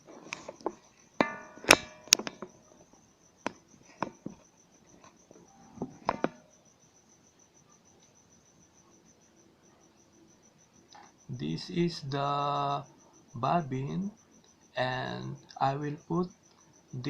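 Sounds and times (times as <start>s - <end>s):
faint high pulsing trill: 0.8s - 3.8s, 4.6s - 17.0s.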